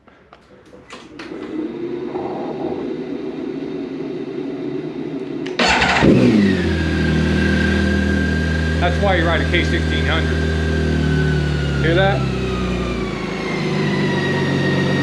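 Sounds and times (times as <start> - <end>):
motorcycle engine starting and idling: 0.7 - 15.0.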